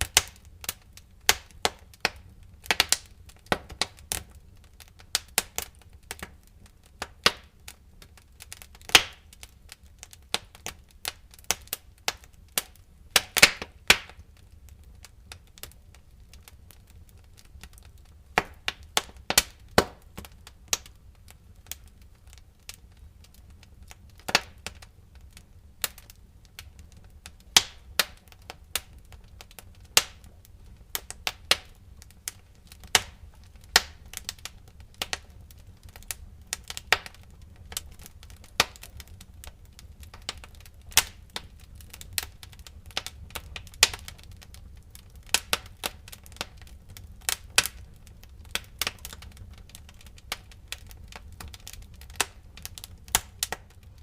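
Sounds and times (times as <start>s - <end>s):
low rumble of flames: 0.0s - 54.0s
wood fire pops and snaps: 0.0s - 54.0s.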